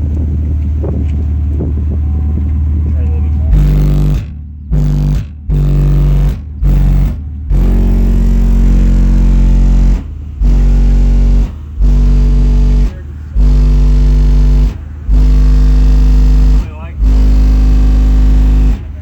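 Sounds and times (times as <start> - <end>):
deep bass note bursts: 0.0 - 19.0.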